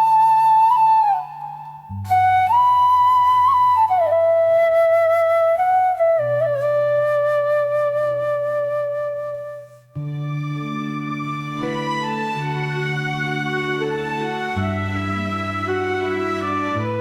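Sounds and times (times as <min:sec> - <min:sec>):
slow flute melody: 0:00.0 - 0:17.0.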